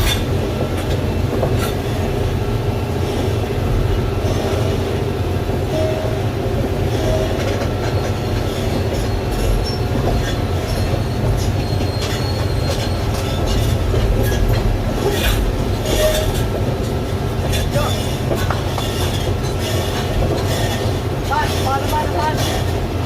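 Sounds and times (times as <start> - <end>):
steel tracks clanking and squealing: 0.0 - 23.0.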